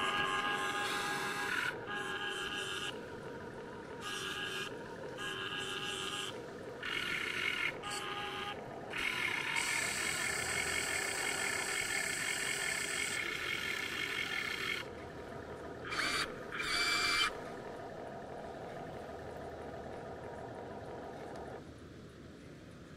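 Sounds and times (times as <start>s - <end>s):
electric motors whining: 0.0s - 21.6s.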